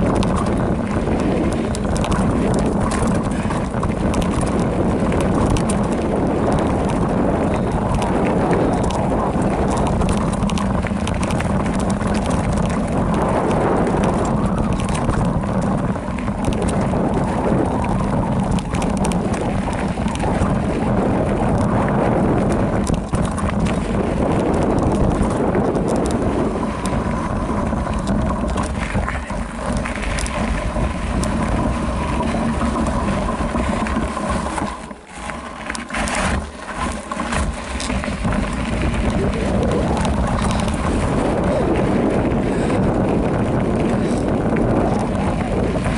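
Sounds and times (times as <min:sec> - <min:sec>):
bike rattling: 0:00.0 - 0:45.9
bike tyres rolling on dirt: 0:00.0 - 0:45.9
wind buffeting microphone: 0:00.0 - 0:45.9.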